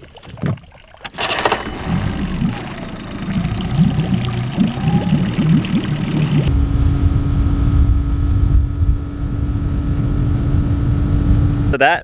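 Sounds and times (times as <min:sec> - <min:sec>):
outboard motor running: 0:00.0 - 0:11.7.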